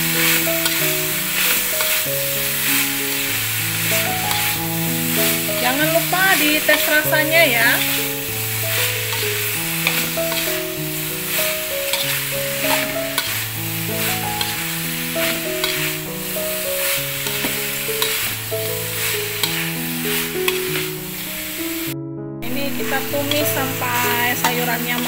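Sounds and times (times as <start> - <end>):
slow background music: 0.0 - 25.0
vegetables sizzling in a wok: 0.0 - 25.0
metal spatula scraping a pan: 0.1 - 10.8, 11.5 - 21.0.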